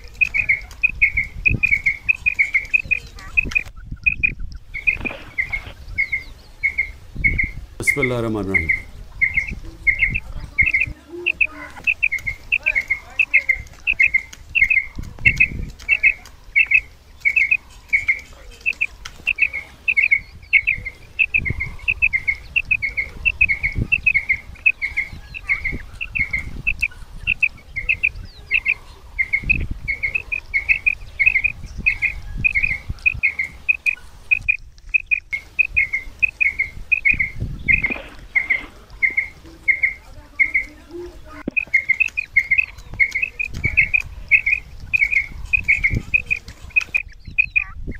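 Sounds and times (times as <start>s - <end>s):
quail call: 0.0s - 47.9s.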